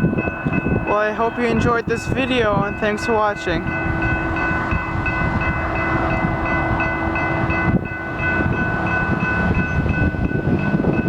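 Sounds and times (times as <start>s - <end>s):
crossing bell ringing: 0.0s - 11.0s
train wheels rumbling: 0.0s - 11.0s.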